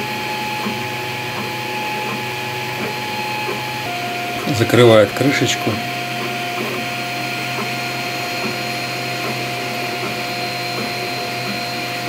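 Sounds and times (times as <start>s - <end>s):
high tones from fans and motors: 0.0s - 12.0s.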